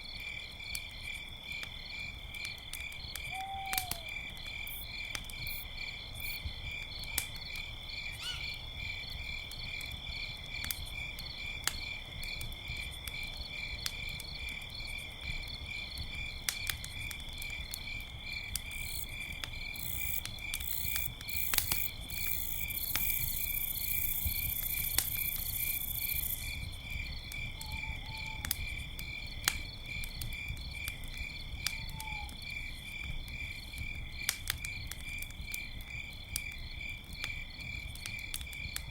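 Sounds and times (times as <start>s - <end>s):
crickets chirping: 0.0s - 38.8s
campfire crackling and popping: 0.1s - 38.9s.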